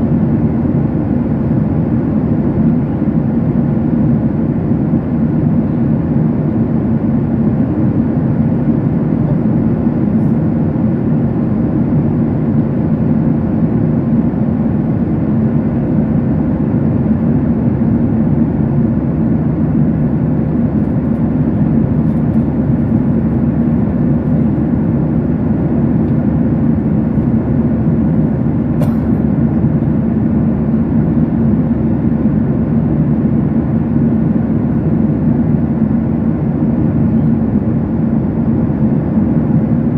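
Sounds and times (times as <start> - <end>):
jet airliner cabin roar: 0.0 - 39.9.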